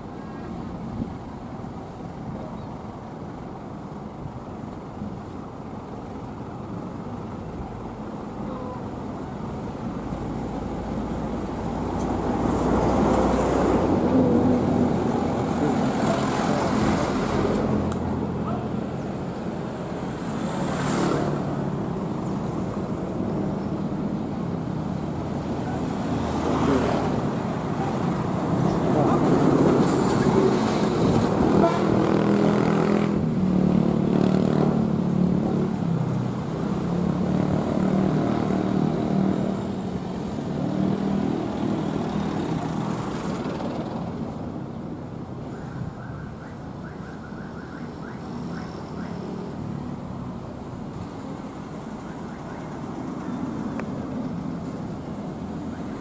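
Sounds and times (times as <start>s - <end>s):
vehicles driving past: 0.0s - 56.0s.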